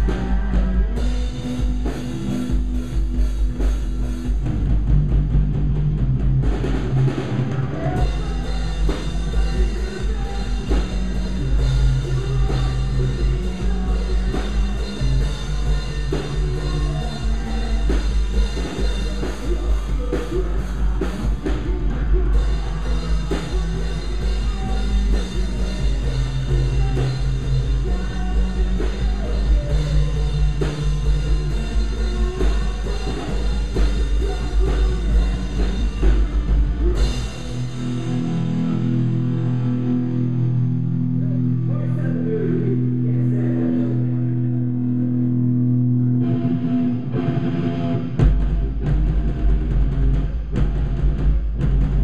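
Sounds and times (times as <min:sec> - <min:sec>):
distorted guitar: 0:00.0 - 0:52.0
live rock band playing: 0:00.0 - 0:52.0.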